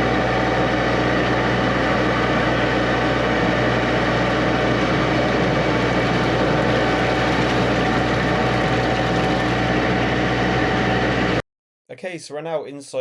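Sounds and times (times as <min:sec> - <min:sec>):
drain jetter engine running: 0:00.0 - 0:11.4.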